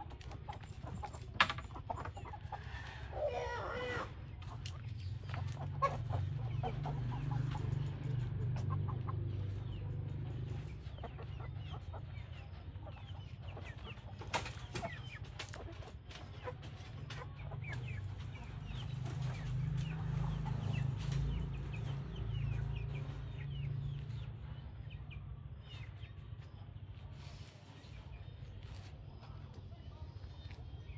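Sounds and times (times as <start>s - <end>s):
chickens clucking: 0.0s - 30.7s.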